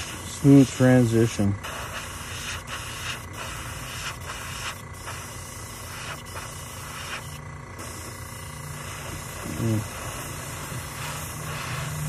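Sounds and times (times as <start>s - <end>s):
airbrush hiss: 0.0s - 12.0s
low steady hum: 0.0s - 12.0s.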